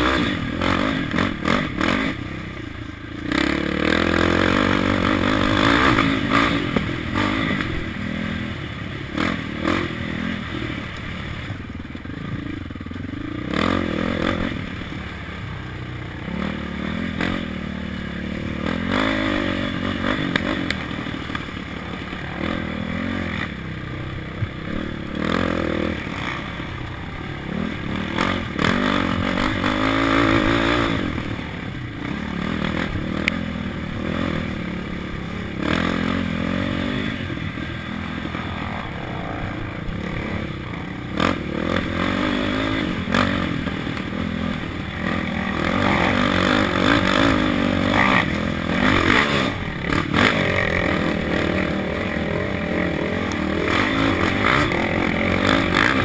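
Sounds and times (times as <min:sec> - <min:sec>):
quad engine revving: 0:00.0 - 0:11.5, 0:12.4 - 0:56.0.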